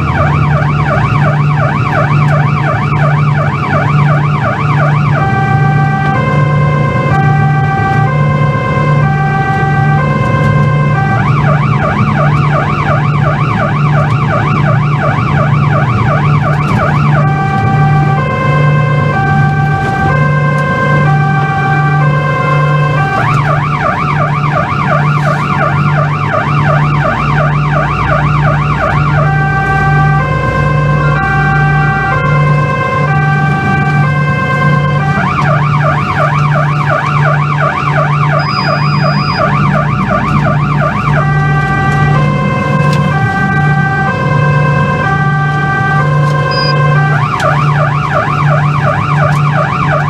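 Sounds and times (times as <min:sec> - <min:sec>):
police siren wailing: 0:00.0 - 0:50.0.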